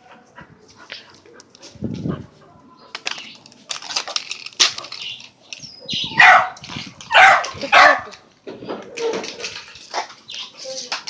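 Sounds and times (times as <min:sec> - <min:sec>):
scuffling and clattering: 0:00.8 - 0:11.0.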